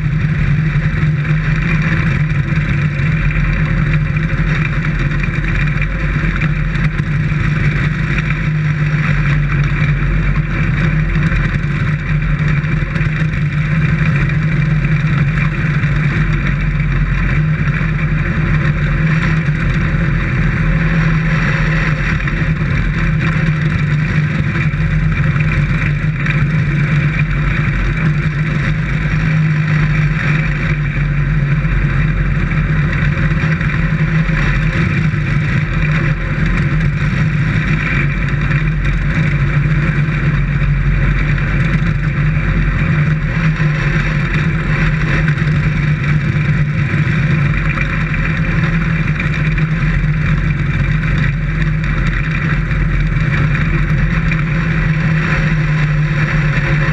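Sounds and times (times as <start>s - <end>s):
race car engine running hard: 0.0s - 56.9s.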